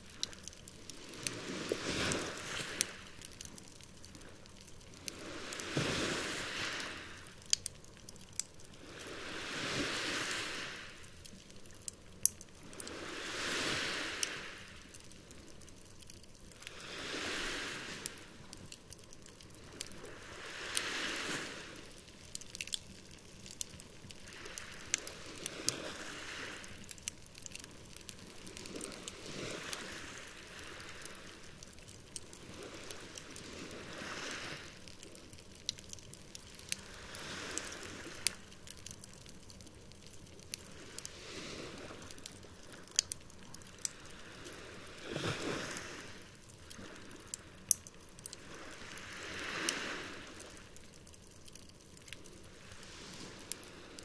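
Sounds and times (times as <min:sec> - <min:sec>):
campfire crackling: 0:00.0 - 0:54.0
small waves washing onto shore: 0:00.0 - 0:54.0.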